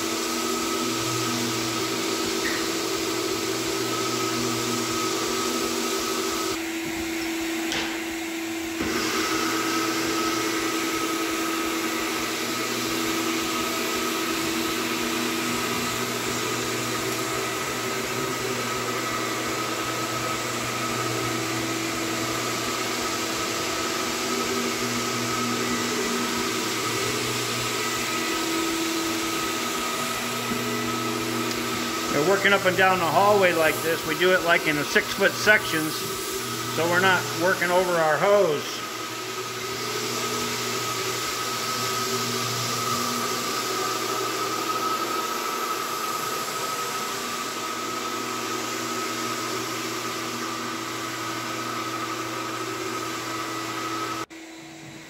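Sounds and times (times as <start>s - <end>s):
vacuum cleaner motor humming: 0.0s - 55.0s.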